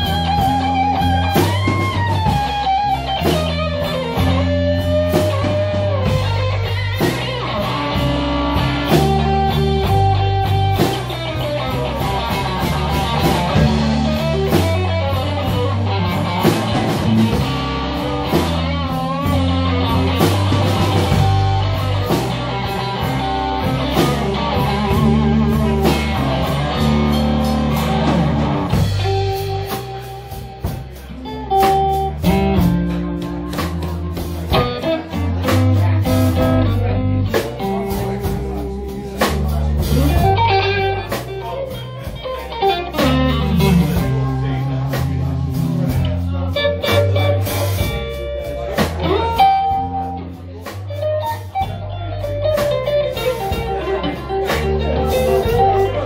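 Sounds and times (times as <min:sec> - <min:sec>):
electric guitar lead: 0:00.0 - 0:56.0
live blues band playing: 0:00.0 - 0:56.0.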